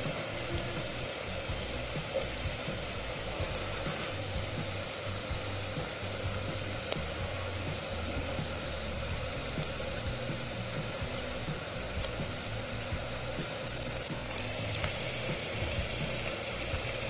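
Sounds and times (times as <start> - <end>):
egg sizzling in oil: 0.0 - 17.0
low hum: 0.0 - 17.0.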